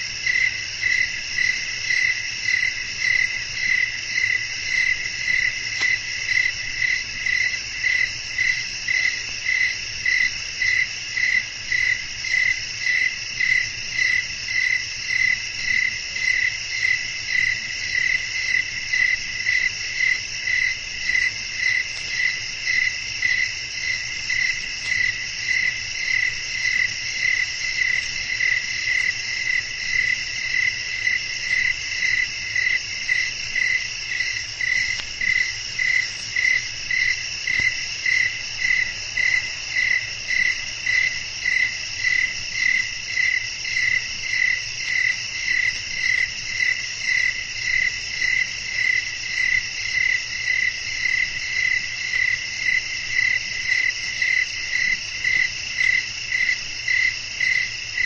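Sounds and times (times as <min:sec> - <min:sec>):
cricket chirping: 0:00.0 - 0:58.0
crickets trilling: 0:00.0 - 0:58.0.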